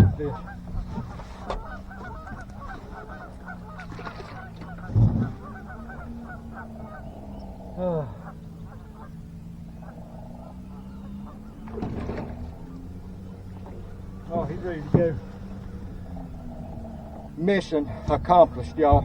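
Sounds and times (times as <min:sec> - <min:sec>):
falling bird call: 0:00.0 - 0:18.1
flock of birds calling: 0:00.0 - 0:19.0
steady low hum: 0:00.0 - 0:19.0.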